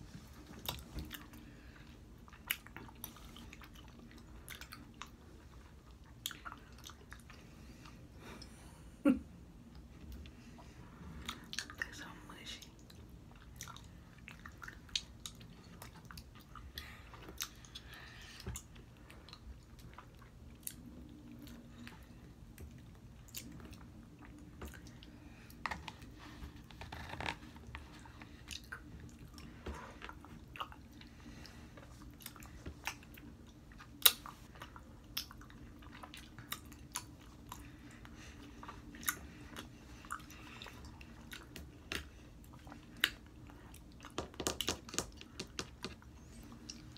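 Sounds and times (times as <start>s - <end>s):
gummy bears being chewed: 0.1s - 8.6s, 9.6s - 46.9s.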